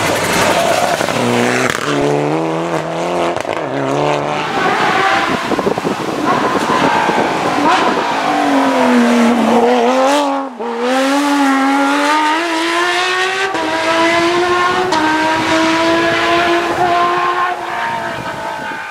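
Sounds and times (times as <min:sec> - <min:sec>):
rally car engine at full throttle: 0:00.0 - 0:18.9.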